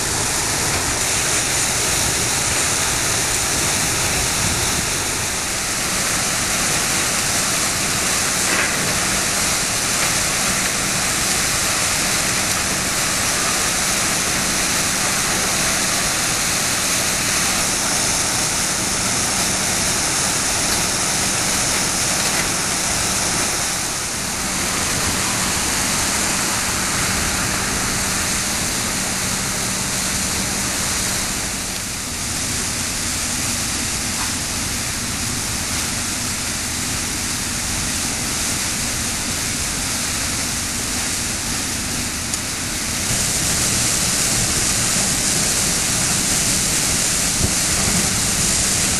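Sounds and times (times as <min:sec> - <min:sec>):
water rushing and splashing: 0:00.0 - 0:34.0, 0:34.7 - 0:48.9
low pump hum: 0:00.0 - 0:48.9.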